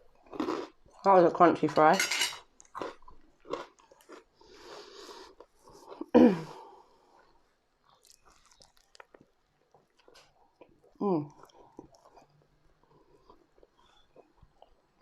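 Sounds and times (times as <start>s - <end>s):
chewing and crunching fries: 0.0s - 1.2s, 2.4s - 6.1s, 6.9s - 15.0s.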